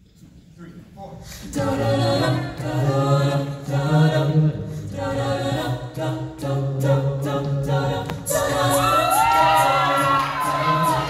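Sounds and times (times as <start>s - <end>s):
a cappella group singing: 1.1s - 11.0s.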